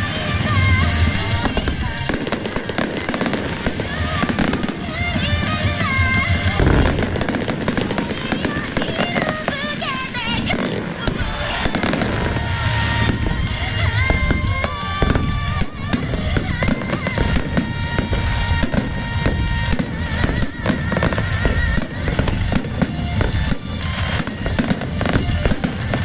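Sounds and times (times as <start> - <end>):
fireworks bangs and crackling: 0.0 - 26.0
music playing: 0.0 - 26.0.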